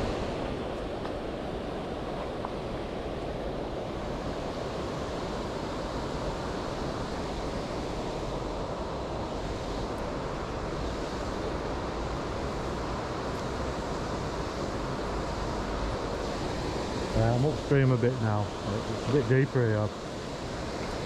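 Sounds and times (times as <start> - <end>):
river water pouring over a weir: 0.0 - 21.0.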